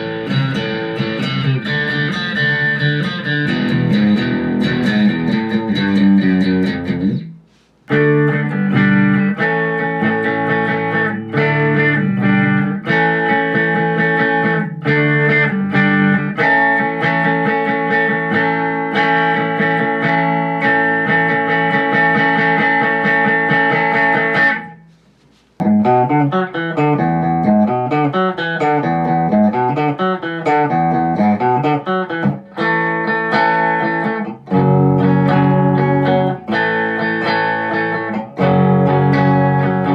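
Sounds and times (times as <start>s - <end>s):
electric guitar with effects: 0.0s - 25.0s, 25.6s - 39.9s.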